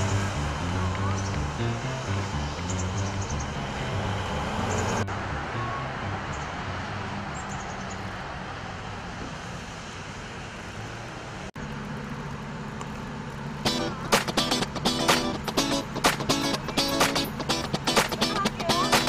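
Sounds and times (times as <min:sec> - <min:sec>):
traffic on wet road: 0:00.0 - 0:19.0.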